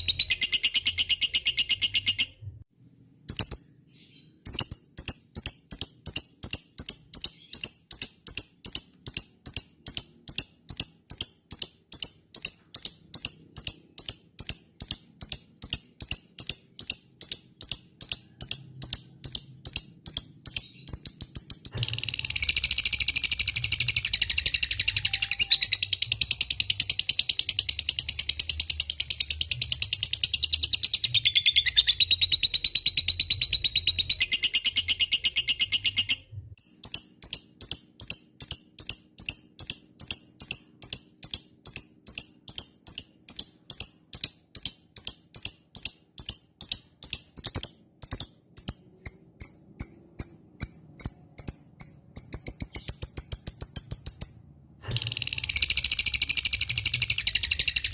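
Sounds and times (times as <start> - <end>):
bird chirping sharply: 0.0 - 2.5, 3.3 - 57.9
bird chattering trill: 4.4 - 57.9.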